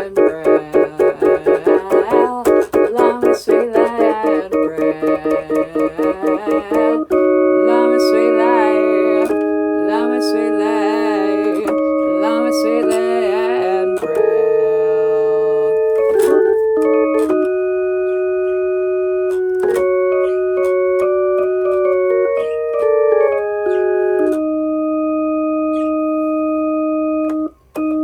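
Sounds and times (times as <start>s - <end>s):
electronic keyboard chords: 0.0s - 28.0s.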